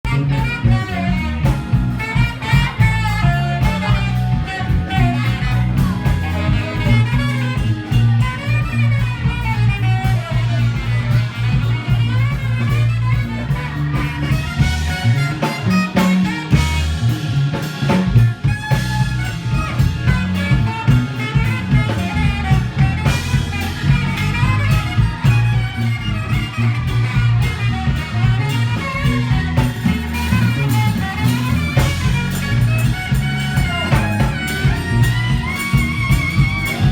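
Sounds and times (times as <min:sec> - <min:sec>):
drum kit: 0:00.0 - 0:36.9
guitar: 0:00.0 - 0:36.9
heavy low bass line: 0:00.0 - 0:36.9
live jazz band: 0:00.0 - 0:36.9.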